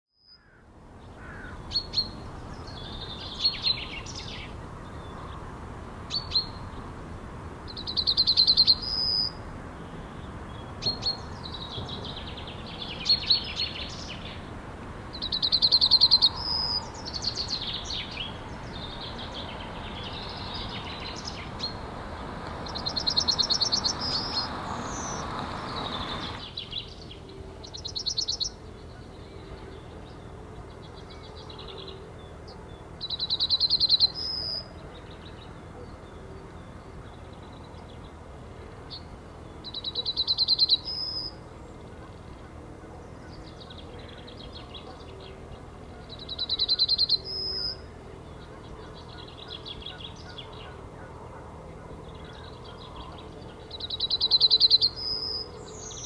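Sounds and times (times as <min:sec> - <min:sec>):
bird song of repeated high notes: 0:00.1 - 0:05.4, 0:07.7 - 0:14.4, 0:15.1 - 0:21.8, 0:22.6 - 0:56.0.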